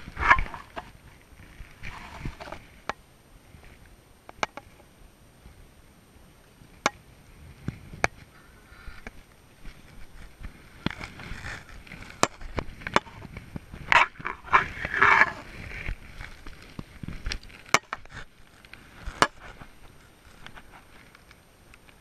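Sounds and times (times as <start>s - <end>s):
rustling: 0.0s - 4.0s, 7.3s - 22.0s.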